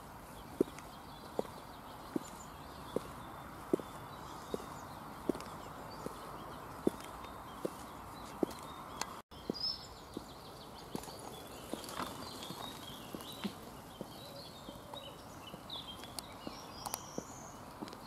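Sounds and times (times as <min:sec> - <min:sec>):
faint birds chirping: 0:00.0 - 0:18.0
high heels clicking on asphalt: 0:00.0 - 0:18.0.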